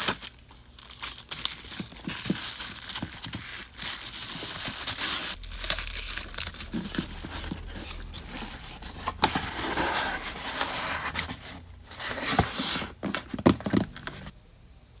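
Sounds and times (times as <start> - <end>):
packaging crinkling and rustling: 0.0 - 14.3.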